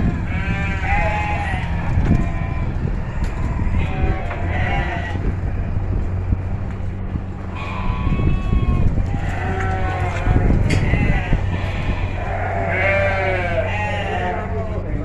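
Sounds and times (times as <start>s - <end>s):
sheep bleating: 0.0s - 5.6s, 7.4s - 14.8s
steady low hum: 0.0s - 15.0s.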